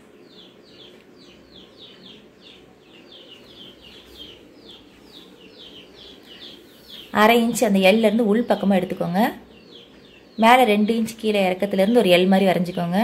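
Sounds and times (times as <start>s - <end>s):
faint room noise: 0.0s - 13.0s
small bird chirping: 0.0s - 13.0s.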